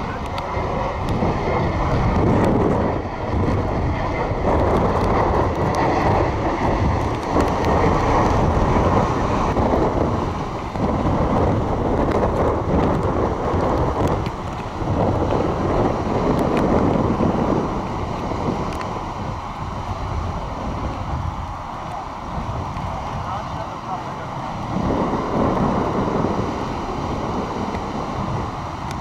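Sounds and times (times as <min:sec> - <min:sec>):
ocean surf: 0:00.0 - 0:29.0
wind blowing across microphone: 0:00.0 - 0:29.0.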